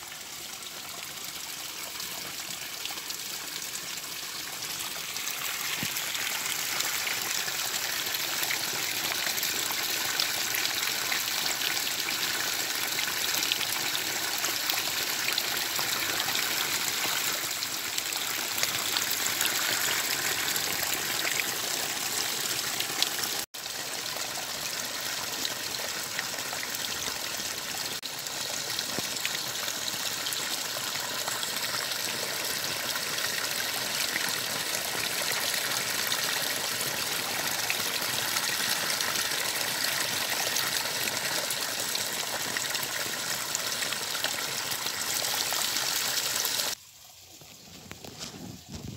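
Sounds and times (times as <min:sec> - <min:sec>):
stream rushing over rocks: 0:02.0 - 0:25.1, 0:26.0 - 0:46.8.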